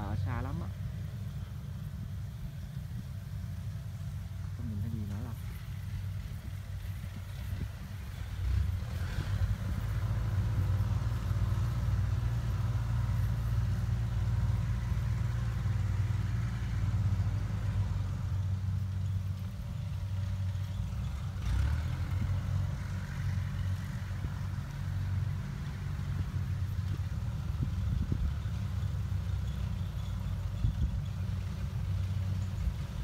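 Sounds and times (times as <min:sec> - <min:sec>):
combine harvester engines humming: 0:00.0 - 0:33.0.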